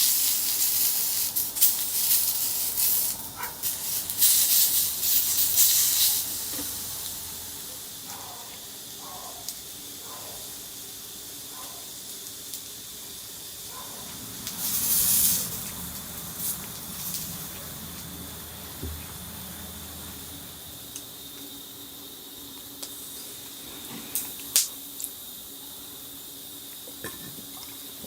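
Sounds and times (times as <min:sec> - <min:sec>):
burning firewood hissing: 0:00.0 - 0:27.0.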